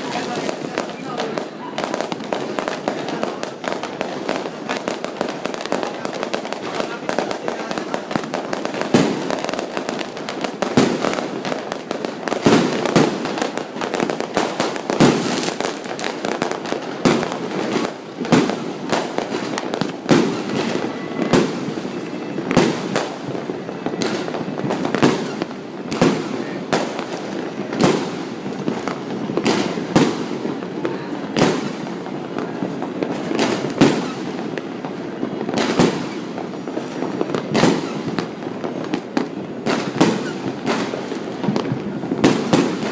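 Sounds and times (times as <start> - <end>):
continuous background din: 0.0 - 42.9
fireworks bangs: 0.0 - 42.9.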